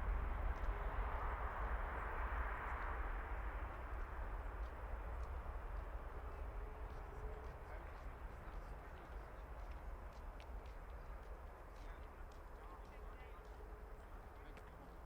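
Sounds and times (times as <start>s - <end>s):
jet airliner engine noise: 0.0s - 15.0s
steady low rumble: 0.0s - 15.0s.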